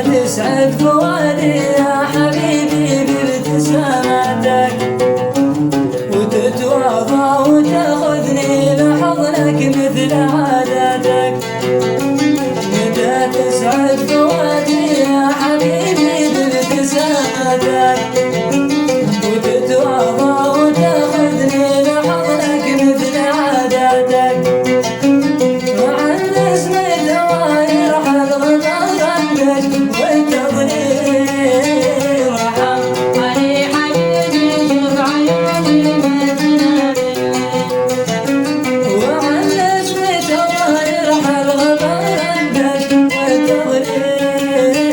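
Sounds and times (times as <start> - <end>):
man singing: 0.0 - 44.9
plucked string instrument: 0.0 - 44.9.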